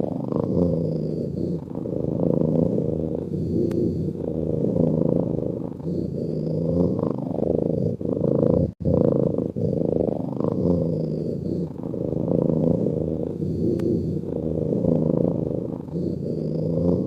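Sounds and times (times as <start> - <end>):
cat snoring: 0.0 - 17.0.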